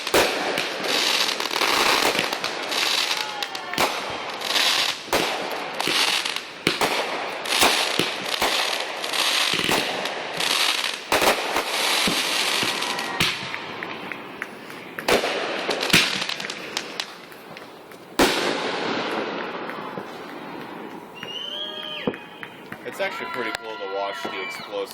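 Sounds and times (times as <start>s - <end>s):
fireworks bangs and pops: 0.0s - 24.9s
fireworks crackling: 0.0s - 24.9s.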